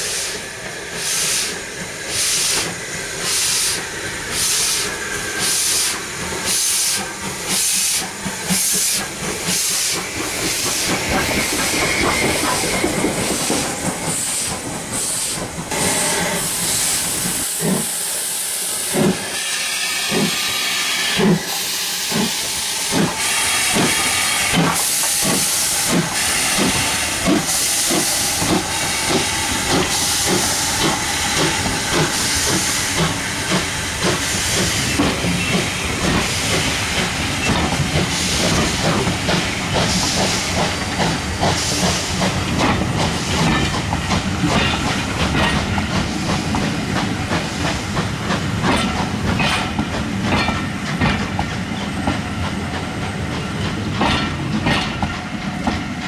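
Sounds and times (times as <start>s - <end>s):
hissing steam: 0.0s - 49.8s
steam locomotive exhaust beats: 0.0s - 56.0s
train wheels clicking over rail joints: 0.2s - 18.0s, 18.8s - 19.3s, 20.0s - 20.5s, 21.1s - 56.0s.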